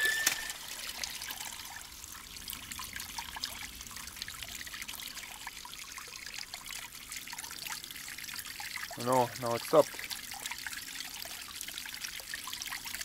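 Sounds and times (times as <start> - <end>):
water drips: 0.0 - 13.0
water trickling: 0.0 - 13.0.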